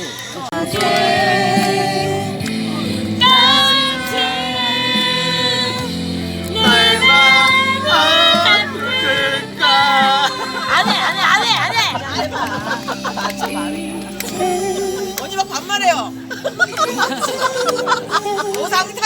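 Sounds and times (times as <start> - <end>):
person singing with vibrato: 0.4 - 19.0
musical accompaniment: 0.5 - 19.0.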